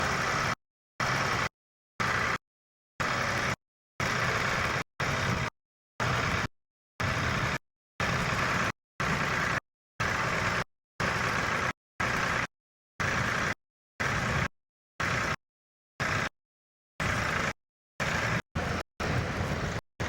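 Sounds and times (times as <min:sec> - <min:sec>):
tractor engine running: 0:00.0 - 0:02.4, 0:03.0 - 0:15.4, 0:16.0 - 0:16.3, 0:17.0 - 0:19.8.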